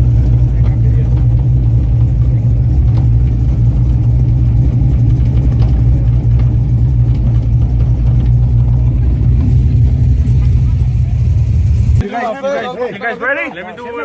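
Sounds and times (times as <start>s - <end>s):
truck engine idling deep rumble: 0.0s - 12.0s.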